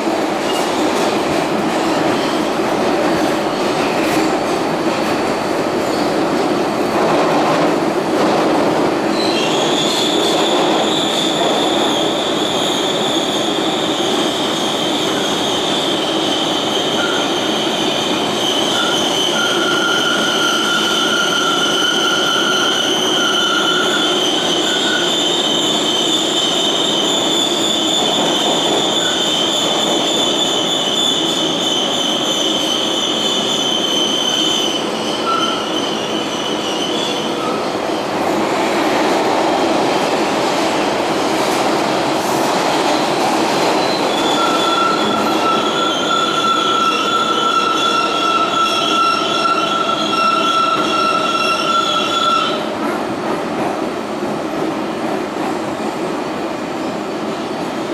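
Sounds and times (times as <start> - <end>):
rumble of wheels on rail: 0.0 - 33.2, 34.0 - 57.9.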